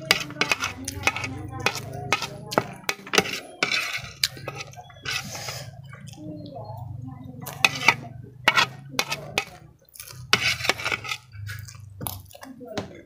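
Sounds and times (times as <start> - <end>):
metal spoon scraping plate: 0.0 - 6.2, 7.4 - 11.8
chewing and slurping: 0.0 - 12.5.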